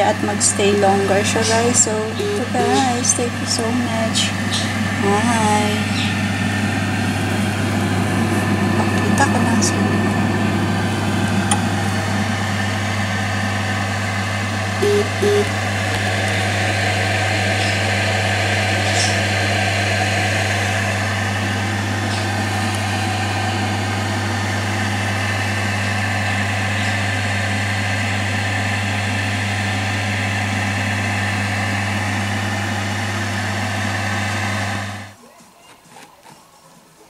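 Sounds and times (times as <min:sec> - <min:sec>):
food dehydrator fan humming: 0:00.0 - 0:37.0.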